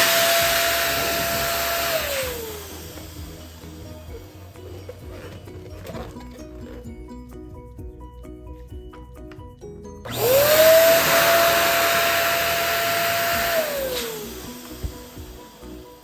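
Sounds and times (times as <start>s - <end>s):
electric balloon pump whine: 0.0s - 7.9s, 9.9s - 16.0s
background music with beat: 0.0s - 16.0s.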